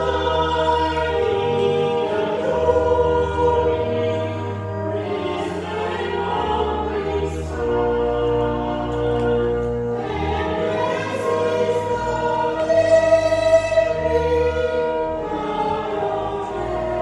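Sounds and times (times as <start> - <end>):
voices singing a hymn: 0.0 - 17.0.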